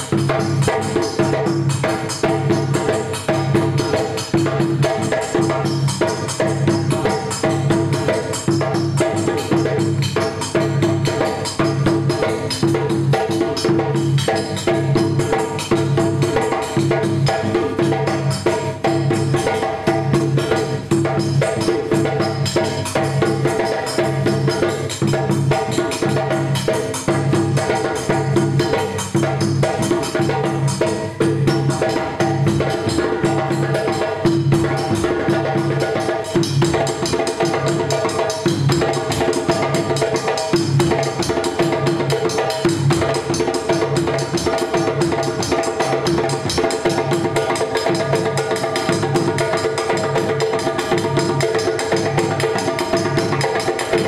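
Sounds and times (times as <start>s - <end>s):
djembe hand drumming: 0.0s - 54.0s.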